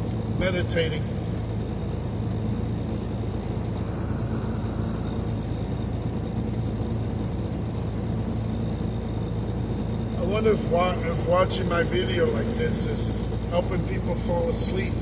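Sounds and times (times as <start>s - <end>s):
road and tyre noise: 0.0s - 15.0s
truck engine drone: 0.0s - 15.0s.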